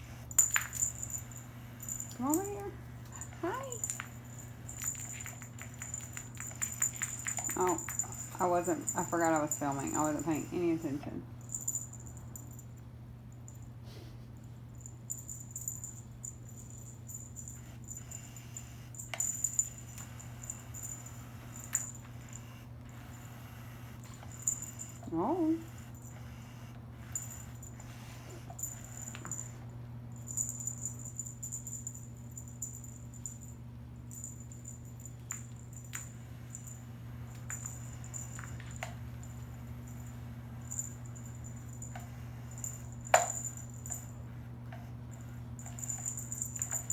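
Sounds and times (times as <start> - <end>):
cat toy jingling and rattling: 0.0 - 12.8, 14.7 - 46.9
steady low hum: 0.0 - 46.9.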